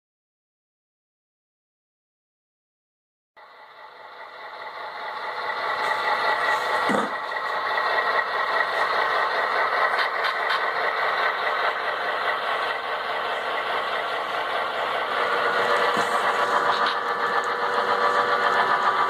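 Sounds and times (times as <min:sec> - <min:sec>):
model trains whirring on track: 0:03.4 - 0:19.0.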